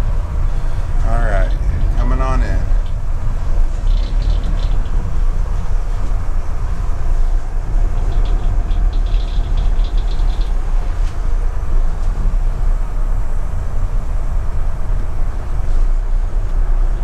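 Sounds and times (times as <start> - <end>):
diesel engines rumbling: 0.0 - 17.0.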